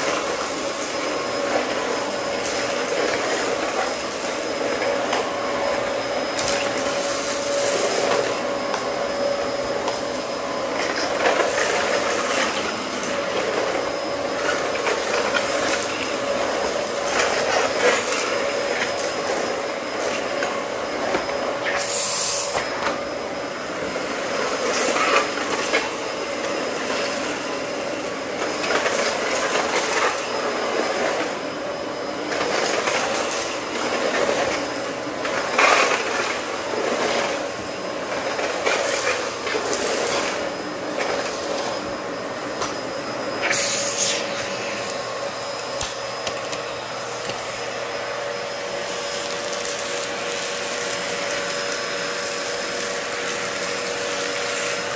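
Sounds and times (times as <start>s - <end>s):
vacuum motor whining: 0.0s - 54.9s.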